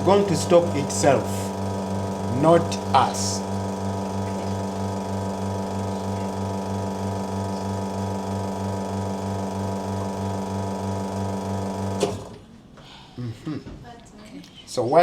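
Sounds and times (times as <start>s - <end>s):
espresso machine pump humming: 0.0s - 12.4s.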